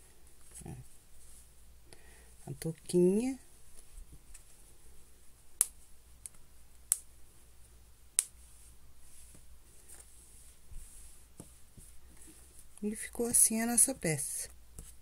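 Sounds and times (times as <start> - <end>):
fabric rustling: 0.0 - 1.8, 2.4 - 6.5, 7.2 - 13.7.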